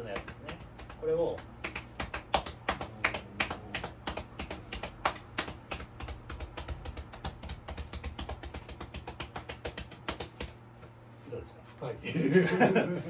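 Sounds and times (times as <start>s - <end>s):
hand patting on back: 0.0s - 11.0s.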